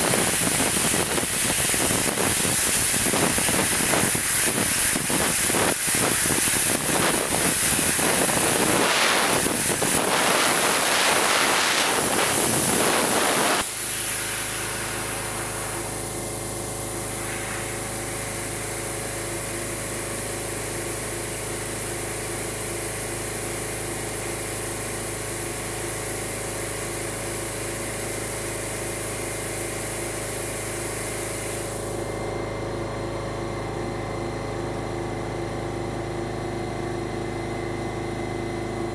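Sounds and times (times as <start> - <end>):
plasma cutter crackling hiss: 0.0 - 32.2
steady machine hum: 0.0 - 38.9.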